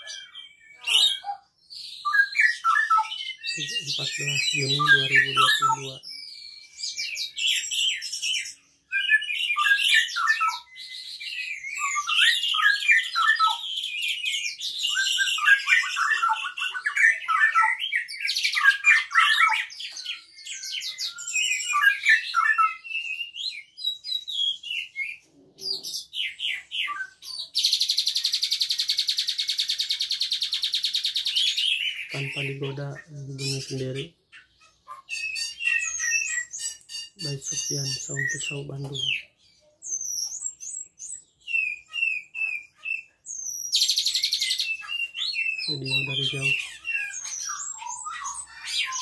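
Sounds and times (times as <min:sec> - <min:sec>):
starling singing: 0:00.0 - 0:49.0.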